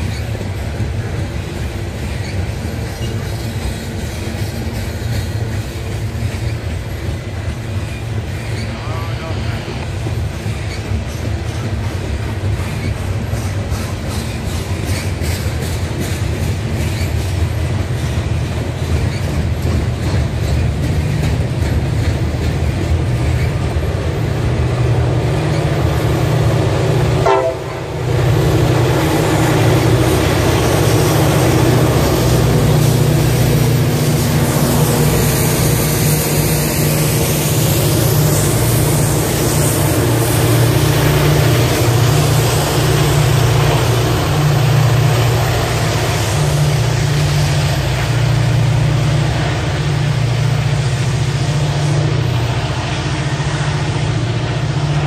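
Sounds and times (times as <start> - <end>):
diesel locomotive engine drone: 0.0 - 55.0
freight cars rolling past: 0.0 - 55.0.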